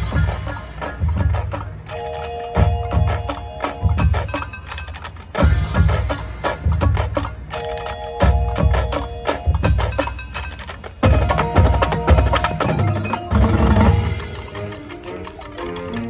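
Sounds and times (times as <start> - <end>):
marching band percussion: 0.0 - 16.0
ringing mallet instrument notes: 0.0 - 16.0.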